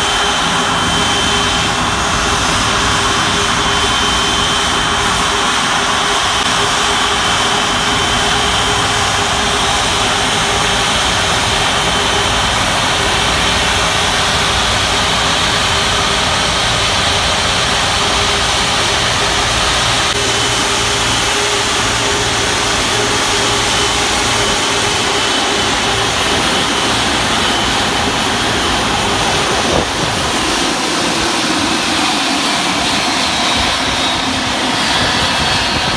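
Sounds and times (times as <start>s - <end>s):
jet engines whining: 0.0s - 35.9s.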